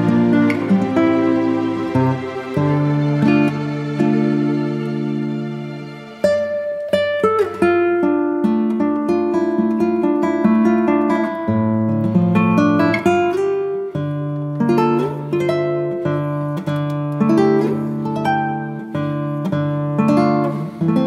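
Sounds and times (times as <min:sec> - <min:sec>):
acoustic guitar picking: 0:00.0 - 0:21.0.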